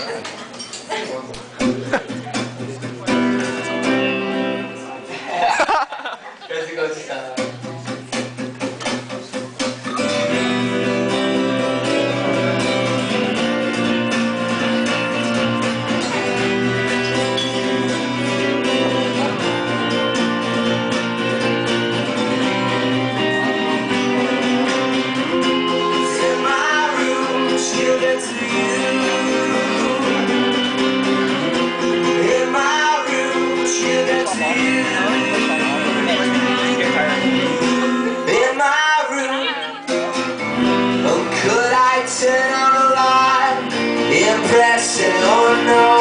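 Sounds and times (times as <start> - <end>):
live band with guitar chords: 0.0 - 46.0.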